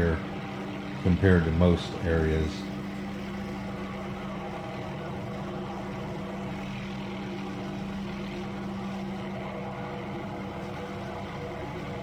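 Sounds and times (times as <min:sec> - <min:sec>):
aerial saw running: 0:00.0 - 0:12.0
helicopter hovering: 0:00.0 - 0:12.0.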